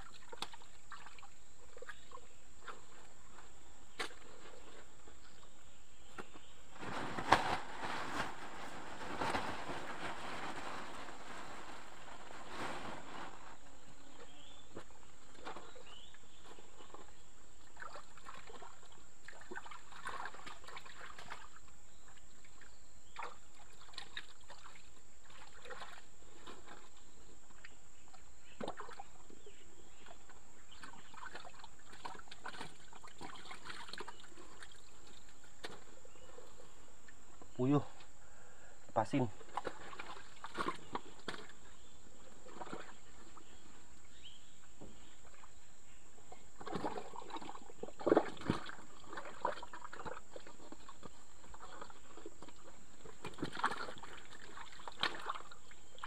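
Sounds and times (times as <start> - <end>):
muddy water splashing: 0.0 - 38.0, 39.2 - 56.0.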